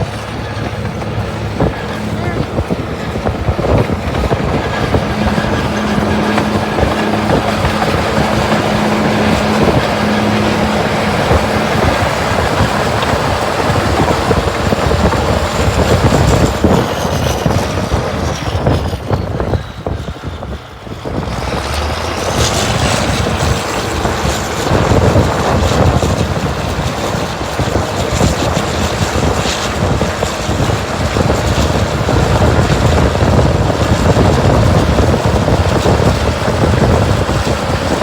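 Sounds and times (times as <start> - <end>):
bulldozer diesel engine under load: 0.0 - 38.0.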